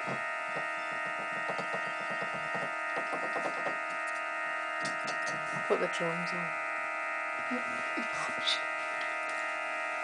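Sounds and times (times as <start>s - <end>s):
electronic organ buzzy chord: 0.0s - 10.0s.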